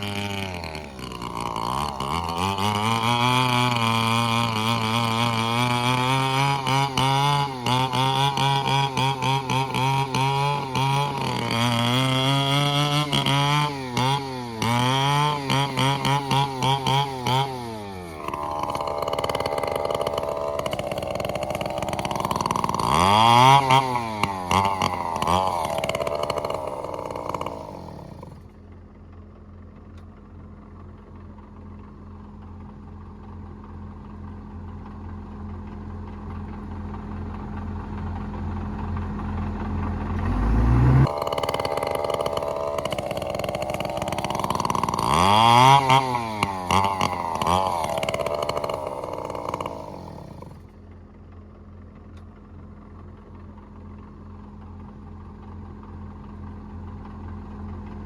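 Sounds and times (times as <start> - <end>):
bulldozer diesel engine labouring: 0.0 - 58.0.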